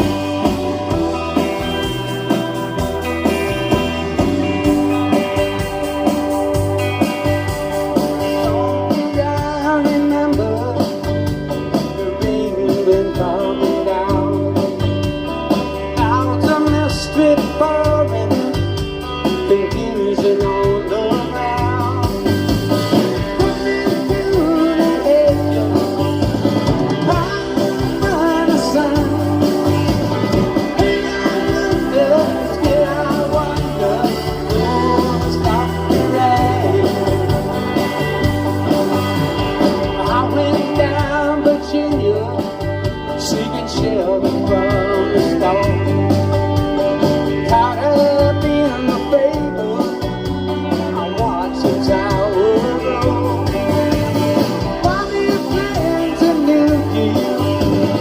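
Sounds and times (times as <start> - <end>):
man singing lead vocals: 0.0 - 5.7, 6.8 - 58.0
bass guitar: 0.0 - 58.0
drums: 0.0 - 58.0
electric guitars: 0.0 - 58.0.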